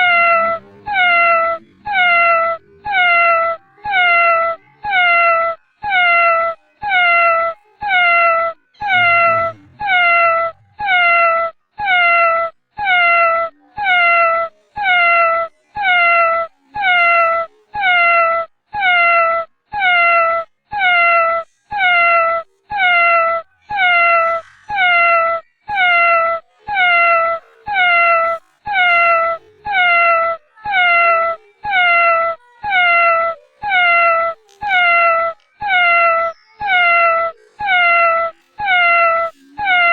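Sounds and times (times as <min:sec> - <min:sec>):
cat meowing: 0:00.0 - 0:13.5, 0:14.2 - 0:39.9.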